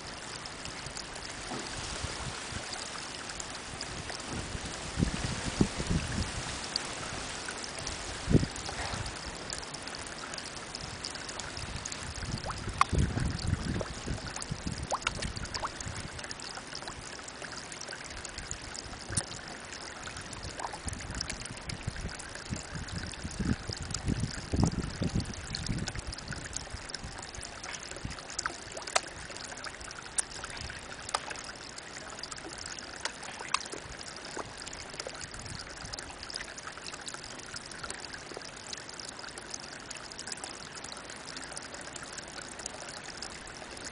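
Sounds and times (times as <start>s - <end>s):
small water drips: 0.0s - 43.9s
water trickling into a pond: 0.0s - 43.9s.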